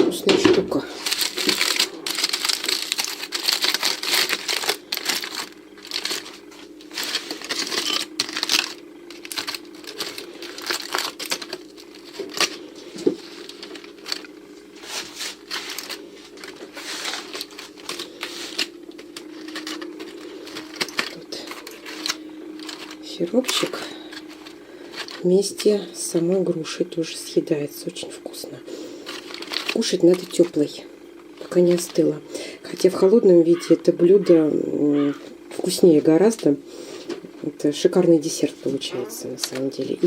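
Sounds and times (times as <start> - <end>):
foil and paper crinkling: 0.0 - 26.5, 28.5 - 34.2, 38.5 - 40.0.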